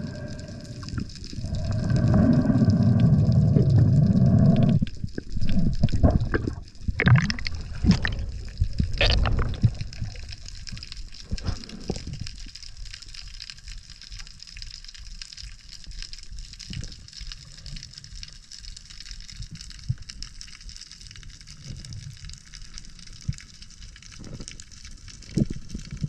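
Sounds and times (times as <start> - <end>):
low underwater rumble: 0.0 - 26.0
underwater crackling: 0.0 - 26.0.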